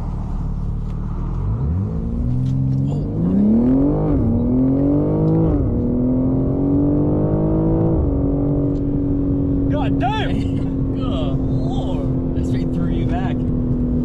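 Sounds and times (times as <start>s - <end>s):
car engine accelerating hard: 1.1s - 14.0s.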